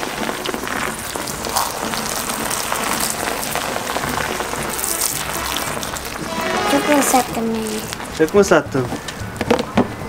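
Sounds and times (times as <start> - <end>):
hose water splashing into tub: 0.0 - 8.6.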